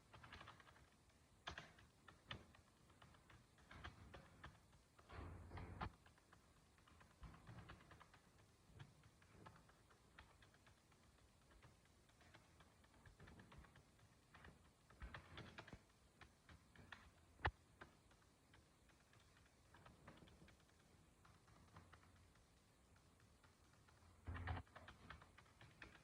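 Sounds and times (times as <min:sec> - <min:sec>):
mechanical keyboard typing: 0:00.0 - 0:26.0.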